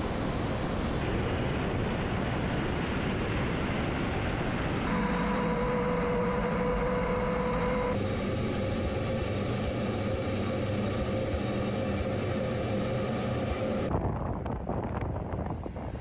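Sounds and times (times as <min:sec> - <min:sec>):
jet engines rushing and whining: 0:00.0 - 0:13.9.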